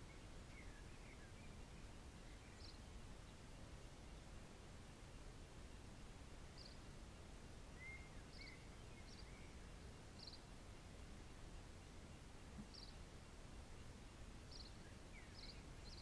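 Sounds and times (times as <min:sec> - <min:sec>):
soft whistled bird notes: 0:00.0 - 0:04.4, 0:05.7 - 0:13.1, 0:13.7 - 0:16.0
faint bird chirps: 0:00.0 - 0:16.0
faint outdoor rumble: 0:00.0 - 0:16.0.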